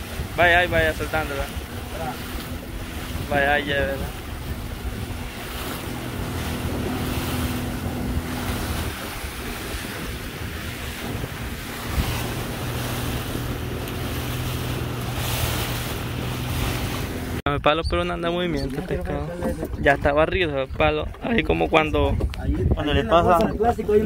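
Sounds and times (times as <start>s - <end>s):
boat motor running: 0.0s - 17.4s, 18.4s - 24.0s
water rushing along hull: 0.0s - 24.0s
wind buffeting microphone: 0.0s - 24.0s.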